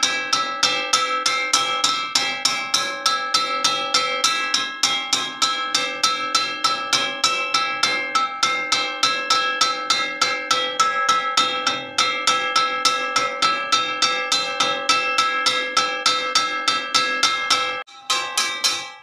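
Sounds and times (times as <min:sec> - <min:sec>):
metal wok clanging: 0:00.0 - 0:19.0.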